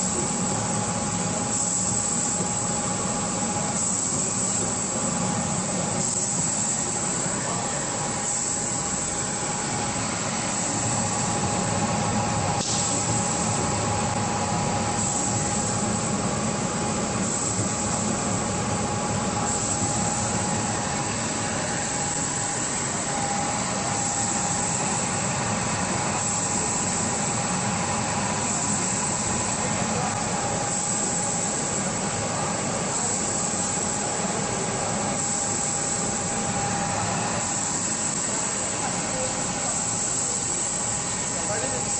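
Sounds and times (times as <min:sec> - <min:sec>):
printing machine hum and whine: 0:00.0 - 0:41.9.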